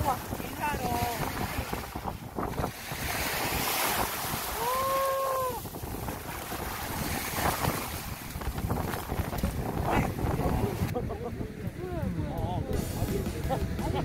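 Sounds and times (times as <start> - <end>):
surf washing on sand: 0.0 - 14.0
wind buffeting microphone: 0.0 - 14.0.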